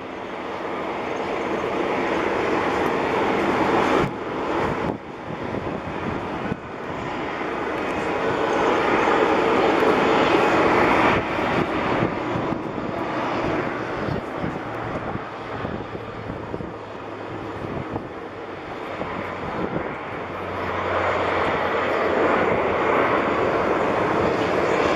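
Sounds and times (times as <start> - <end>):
turboprop aircraft engines droning: 0.0 - 24.9.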